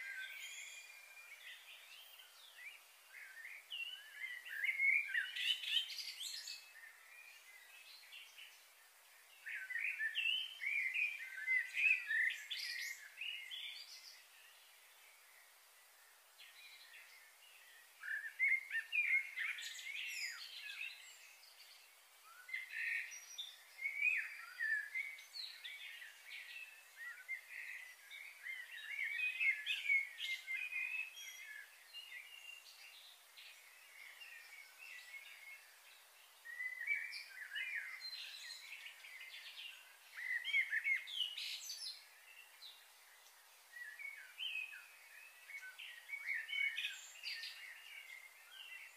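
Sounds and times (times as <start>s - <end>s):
faint steady hiss: 0.0s - 48.9s
small birds chirping: 0.0s - 48.9s.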